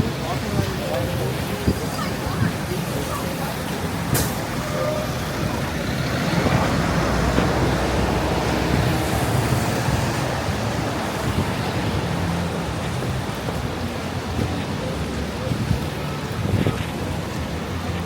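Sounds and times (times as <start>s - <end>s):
traffic passing: 0.0s - 18.0s
tyres hissing on wet pavement: 0.0s - 18.0s.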